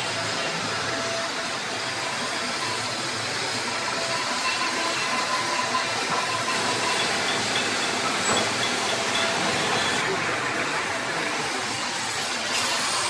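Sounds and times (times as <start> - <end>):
cutting torch hissing: 0.0 - 13.0.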